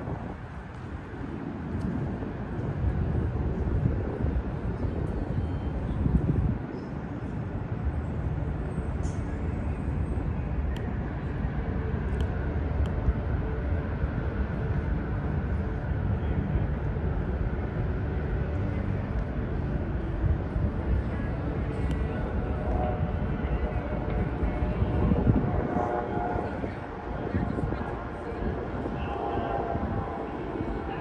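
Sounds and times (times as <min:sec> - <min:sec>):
low rumble and hiss: 0:00.0 - 0:31.0.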